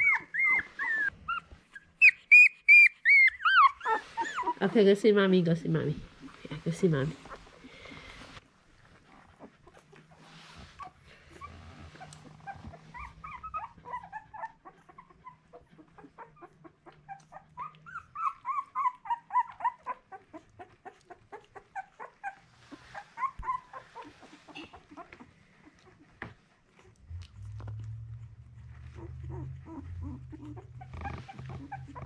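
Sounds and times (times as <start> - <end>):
puppies squeaking and whimpering: 0.0 - 5.2, 6.1 - 32.0.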